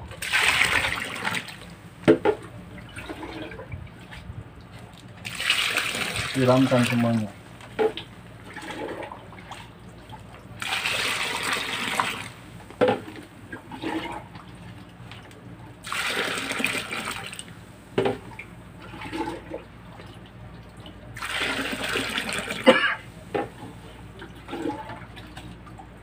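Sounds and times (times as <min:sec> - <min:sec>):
liquid gushing into slurry tank: 0:00.0 - 0:25.8.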